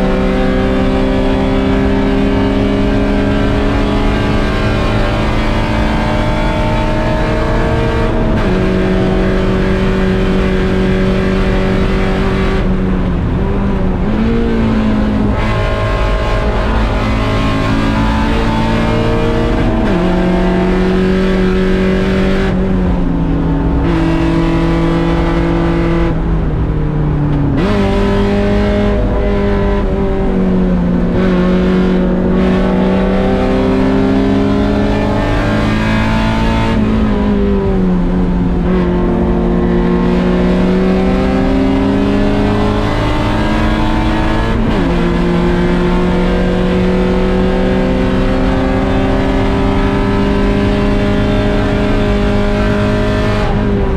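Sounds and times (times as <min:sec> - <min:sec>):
car engine revving through gears: 0:00.0 - 0:53.9.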